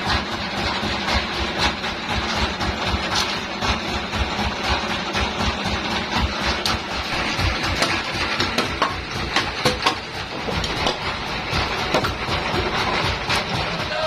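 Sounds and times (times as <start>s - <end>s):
machinery knocking and clattering: 0.0s - 14.0s
sawmill machinery rumble: 0.0s - 14.0s.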